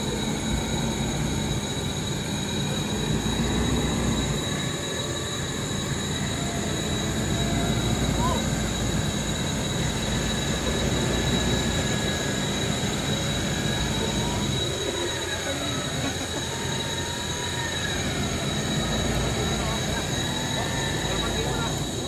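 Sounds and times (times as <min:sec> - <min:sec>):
engine and winch under load: 0:00.0 - 0:22.0
rising and falling whine: 0:00.0 - 0:22.0.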